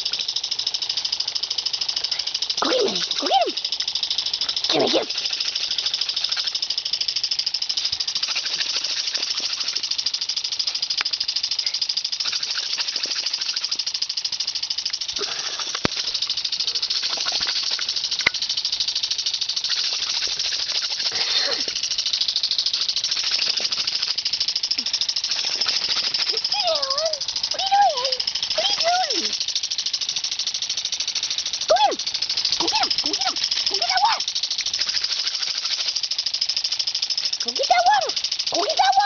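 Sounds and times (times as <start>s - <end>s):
lawn sprinkler spraying: 0.0s - 39.0s
sprinkler sharp clicks: 0.0s - 39.0s.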